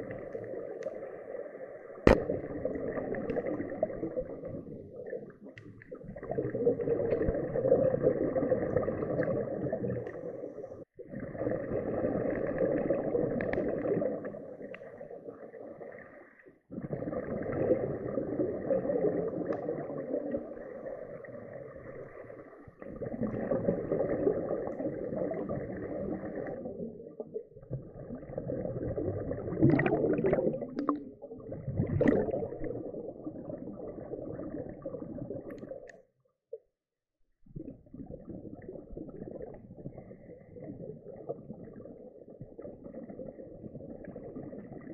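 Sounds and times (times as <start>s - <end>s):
underwater scuba breathing bubbles: 0.0s - 35.9s, 37.6s - 44.9s.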